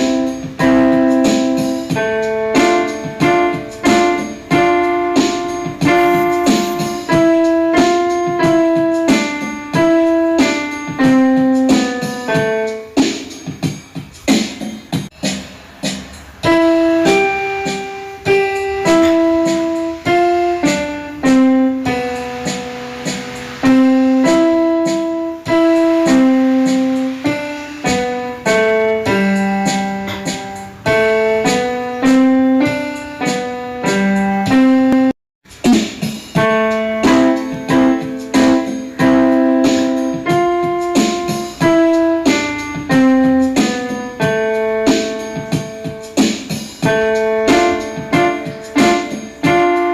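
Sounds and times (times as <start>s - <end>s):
piano music: 0.0s - 49.9s.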